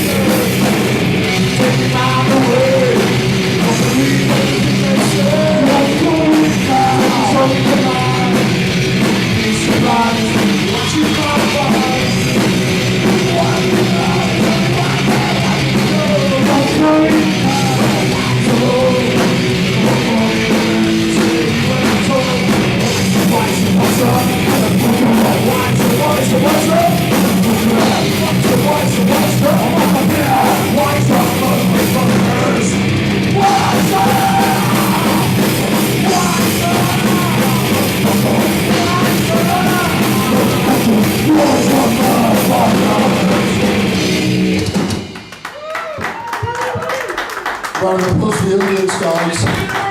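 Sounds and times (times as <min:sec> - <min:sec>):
person singing: 0:00.0 - 0:08.7, 0:09.3 - 0:44.0
drum kit: 0:00.0 - 0:49.9
live rock band playing: 0:00.0 - 0:49.9.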